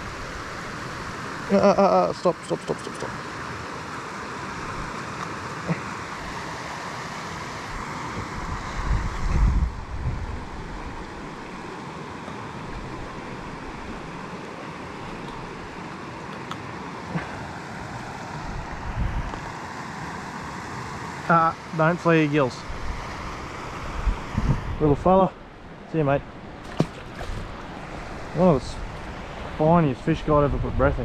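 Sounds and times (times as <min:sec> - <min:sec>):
creek rapids rushing: 0:00.0 - 0:30.8.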